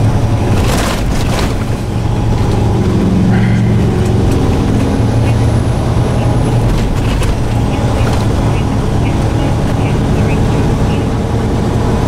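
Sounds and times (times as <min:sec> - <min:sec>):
diesel truck engine humming: 0:00.0 - 0:12.0
road noise: 0:00.0 - 0:12.0.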